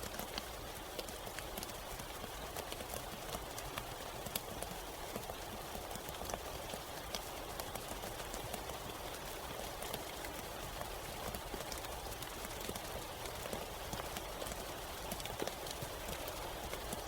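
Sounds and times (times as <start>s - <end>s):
rain falling: 0.0s - 17.0s
raindrops tapping surfaces: 0.0s - 17.0s.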